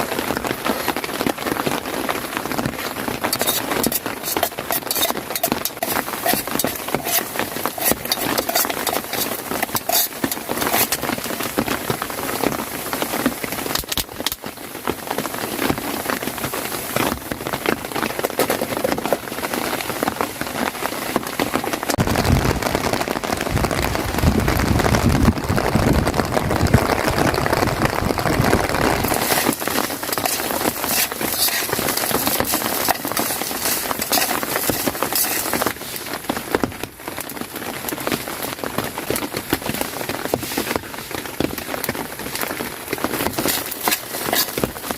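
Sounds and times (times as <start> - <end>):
rain on a tent: 0.0 - 44.9.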